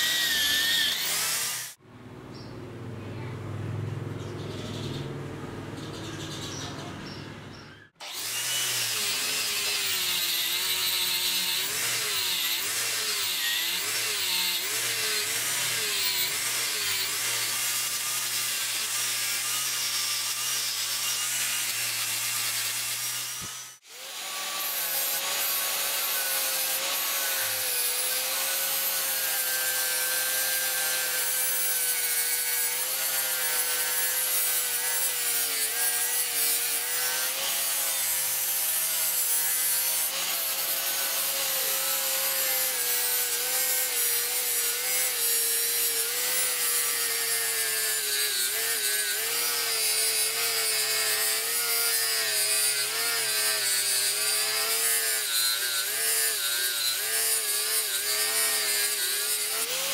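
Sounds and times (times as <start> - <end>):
angle grinder sanding metal: 0.0 - 1.8, 8.0 - 59.9.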